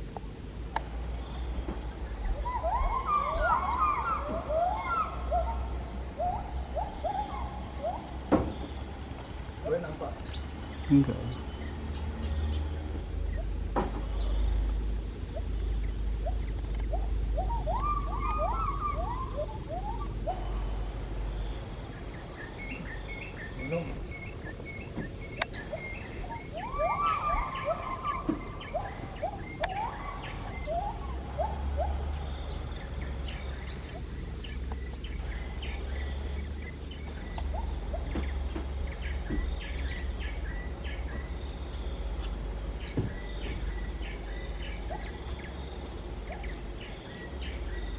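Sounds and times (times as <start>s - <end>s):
high-pitched insect drone: 0.0s - 47.9s
bird chirps: 0.8s - 47.9s
rising whooping calls: 1.0s - 47.9s.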